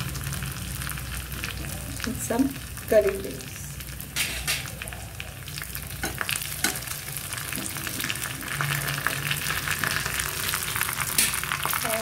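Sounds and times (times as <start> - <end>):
food sizzling in hot oil: 0.0 - 12.0
sharp crackles of oil: 0.0 - 12.0.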